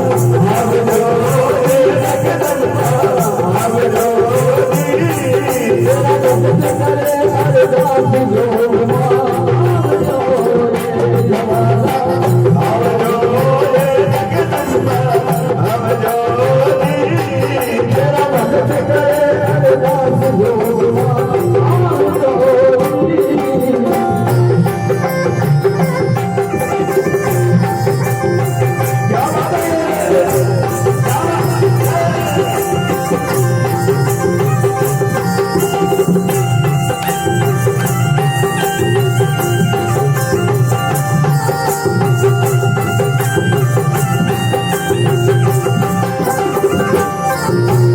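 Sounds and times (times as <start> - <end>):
keyboard melody: 0.0 - 47.9
rattling percussion: 0.0 - 47.9
steady drum beat: 0.0 - 47.9.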